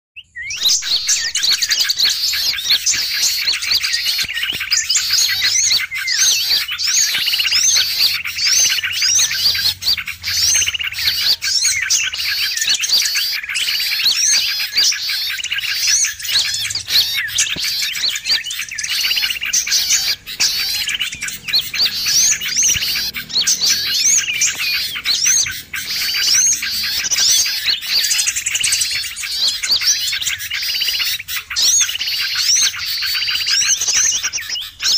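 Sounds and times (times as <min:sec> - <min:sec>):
flock of small birds chirping: 0:00.2 - 0:34.9.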